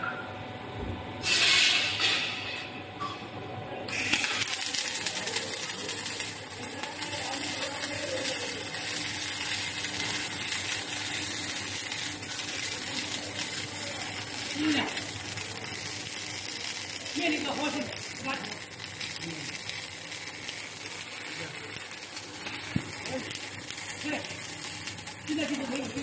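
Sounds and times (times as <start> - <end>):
welding arc hissing: 1.2 - 2.5, 3.9 - 26.0.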